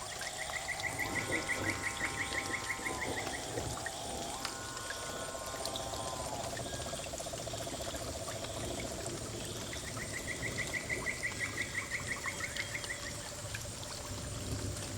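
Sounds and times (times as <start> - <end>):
water trickling and splashing: 0.0 - 14.9.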